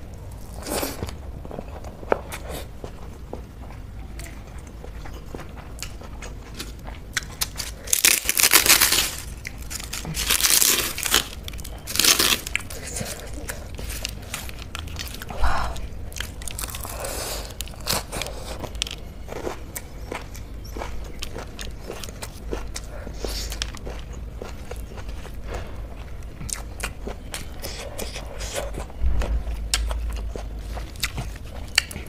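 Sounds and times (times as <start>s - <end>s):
close-up chewing: 0.2s - 32.0s.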